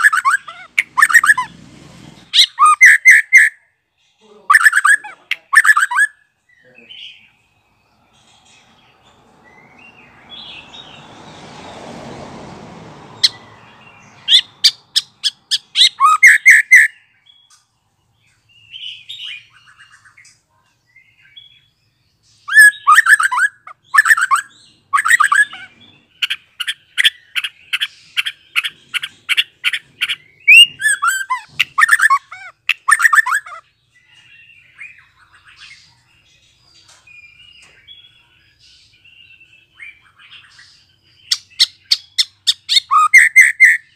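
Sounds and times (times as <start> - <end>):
bird singing: 0.0 - 1.6, 2.2 - 11.8, 13.0 - 43.9.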